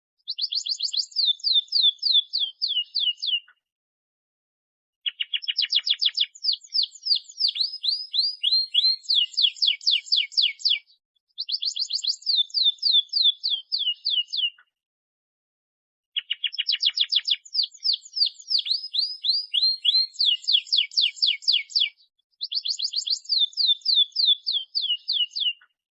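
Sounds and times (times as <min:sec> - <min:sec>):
canary singing high chirps: 0:00.2 - 0:03.6, 0:05.0 - 0:14.7, 0:16.2 - 0:25.7.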